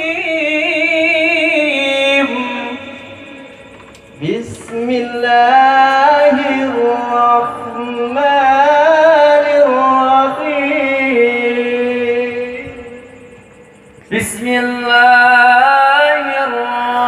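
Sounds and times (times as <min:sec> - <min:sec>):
amplified voice chanting recitation: 0:00.0 - 0:13.3, 0:14.0 - 0:17.0.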